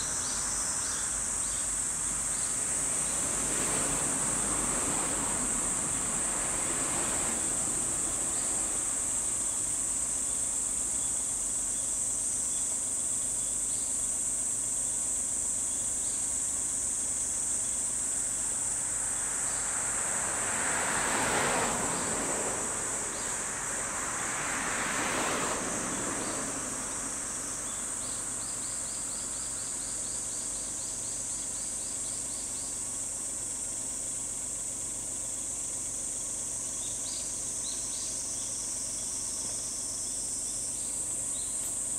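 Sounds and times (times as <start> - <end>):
cicadas chorus: 0.0 - 41.9.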